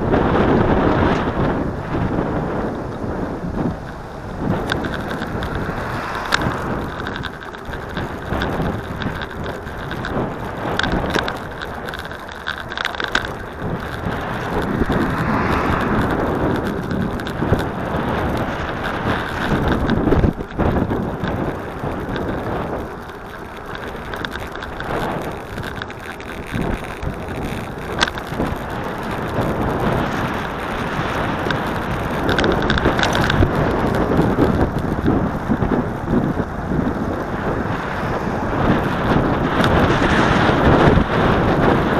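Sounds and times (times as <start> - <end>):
bicycle knocks and rattles: 0.0 - 41.9
bicycle tyre road rumble: 0.0 - 41.9
wind buffeting microphone: 0.0 - 41.9.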